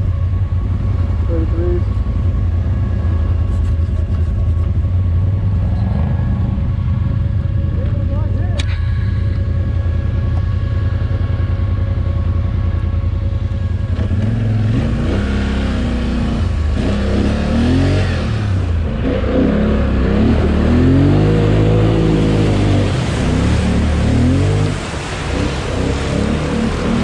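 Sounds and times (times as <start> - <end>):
atv engine idling and revving: 0.0 - 27.0.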